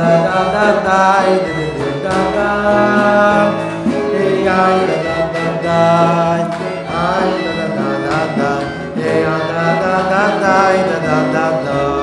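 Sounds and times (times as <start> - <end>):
instrumental accompaniment: 0.0 - 12.0
person singing wordless tune: 0.0 - 12.0.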